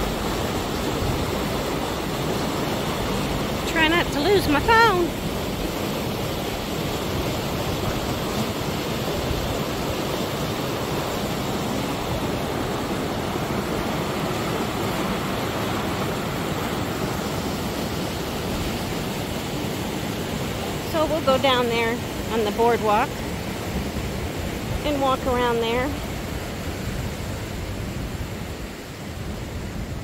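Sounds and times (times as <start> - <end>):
water rushing over rocks: 0.0 - 30.0.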